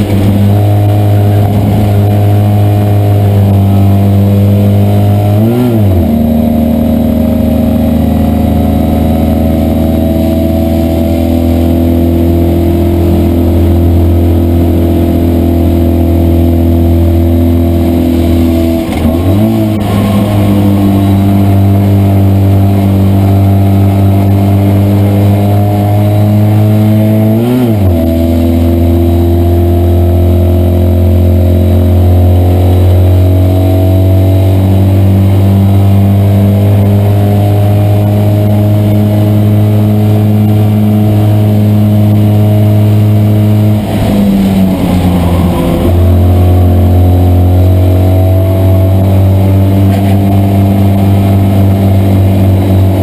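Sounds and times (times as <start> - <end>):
engine note shifting with gear changes: 0.0 - 53.0
race car engine running hard: 0.0 - 53.0.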